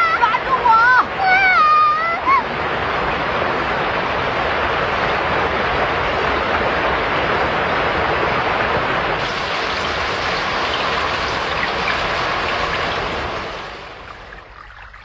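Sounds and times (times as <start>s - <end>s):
rushing river water: 0.0s - 15.0s.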